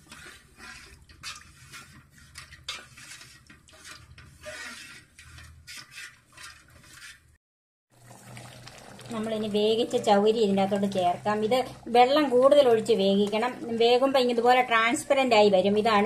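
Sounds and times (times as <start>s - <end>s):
wooden spatula scraping pot: 0.0s - 7.4s, 9.1s - 16.0s.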